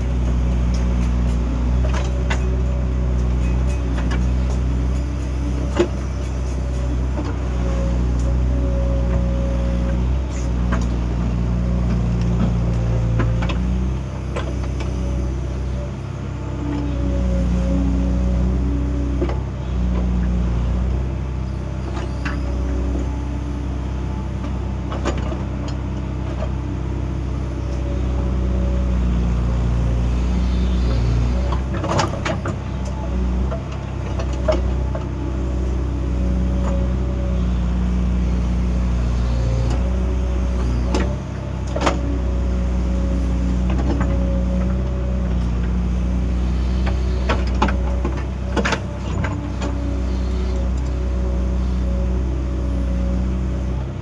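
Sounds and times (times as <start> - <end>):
high hydraulic whine: 0.0 - 20.3, 21.1 - 54.0
excavator diesel engine running: 0.0 - 54.0.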